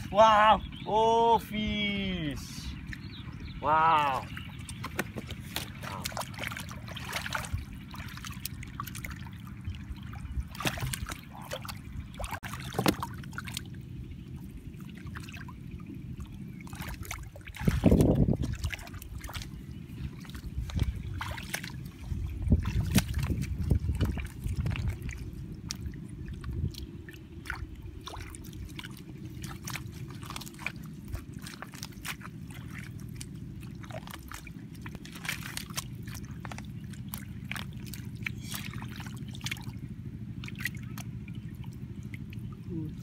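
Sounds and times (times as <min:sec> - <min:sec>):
steady low rumble: 0:00.0 - 0:43.0
hands splashing in muddy water: 0:03.7 - 0:13.8, 0:16.6 - 0:43.0.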